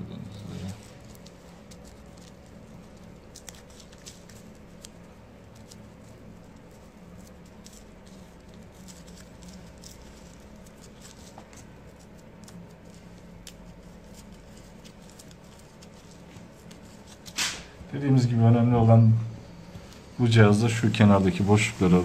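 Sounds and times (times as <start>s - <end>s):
paper and tobacco crackling: 0.1s - 18.7s, 19.6s - 22.0s.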